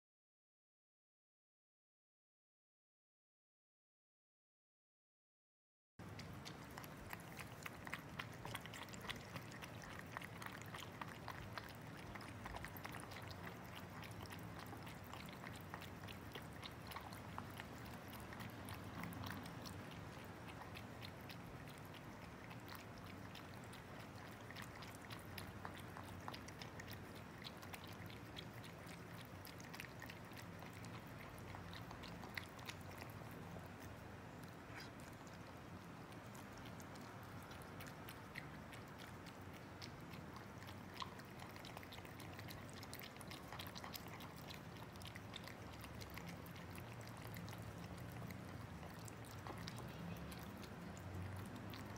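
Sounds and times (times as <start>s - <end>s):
cats chewing food: 6.0s - 51.9s.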